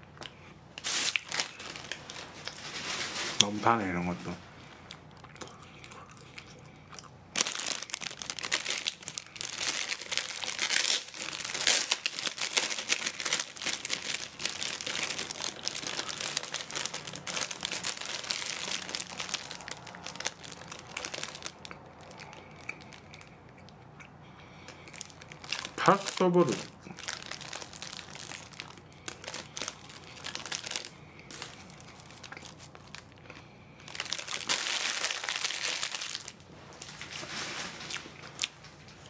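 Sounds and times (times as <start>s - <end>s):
plastic wrapper crinkling: 0.8s - 4.4s, 7.3s - 23.3s, 24.8s - 39.0s.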